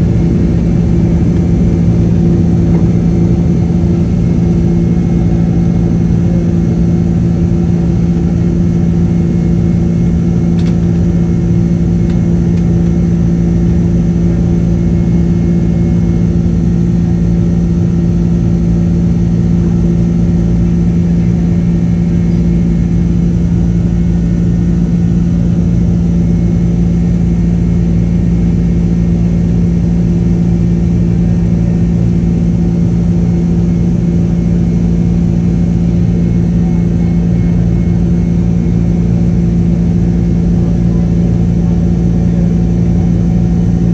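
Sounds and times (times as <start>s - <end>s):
jet engines droning from cabin: 0.0s - 43.9s.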